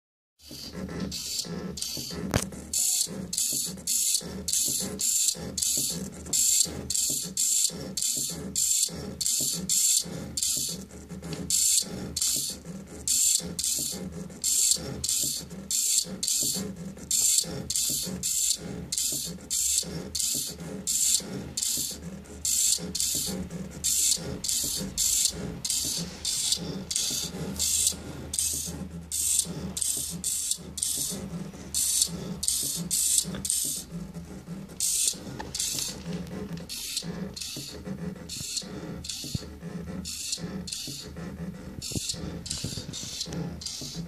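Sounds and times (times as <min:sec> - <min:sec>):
stepper motors rasping: 0:00.4 - 0:44.0.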